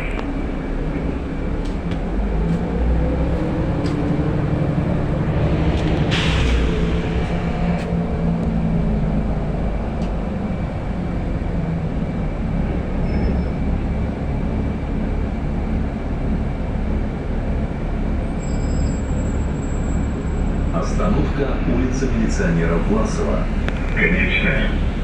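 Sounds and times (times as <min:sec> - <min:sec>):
bus engine rumble: 0:00.0 - 0:25.0
road noise: 0:00.0 - 0:25.0.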